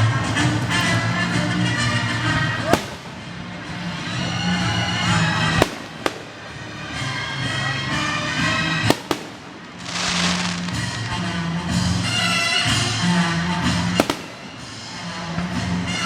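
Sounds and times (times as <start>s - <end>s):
fireworks hissing crackle: 0.0s - 16.0s
music: 0.0s - 16.0s
fireworks bangs: 1.6s - 16.0s.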